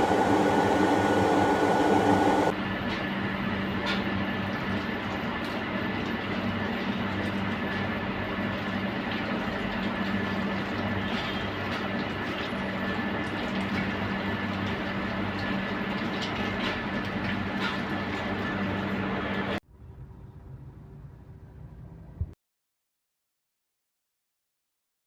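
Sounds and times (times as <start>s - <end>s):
mechanical hum with high whine: 0.0s - 22.4s.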